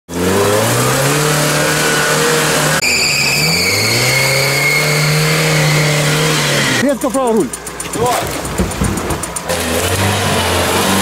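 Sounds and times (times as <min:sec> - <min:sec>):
engine revving under load: 0:00.1 - 0:11.0.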